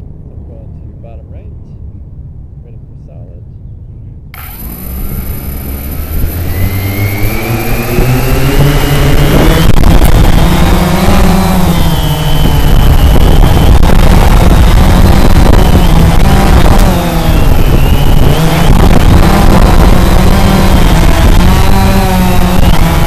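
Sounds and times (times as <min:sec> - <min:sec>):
prop wash rumble on microphone: 0:04.2 - 0:23.0
drone motors buzzing: 0:04.3 - 0:23.0.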